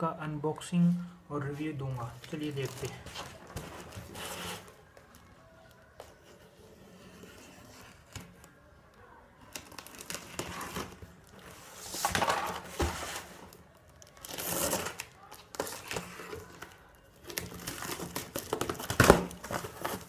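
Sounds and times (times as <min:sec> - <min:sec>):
cardboard and packing tape rustling: 0:02.1 - 0:08.5, 0:09.4 - 0:20.0.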